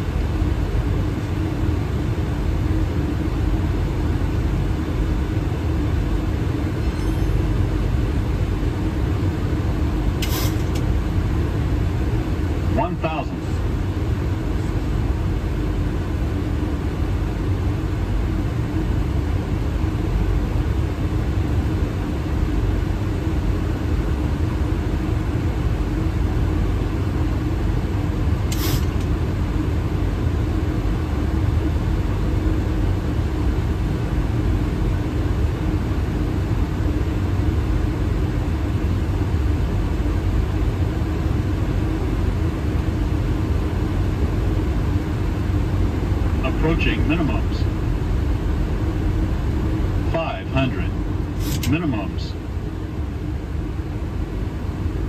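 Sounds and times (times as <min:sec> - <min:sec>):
airliner cockpit rumble: 0:00.0 - 0:55.0
low steady hum: 0:00.0 - 0:55.0.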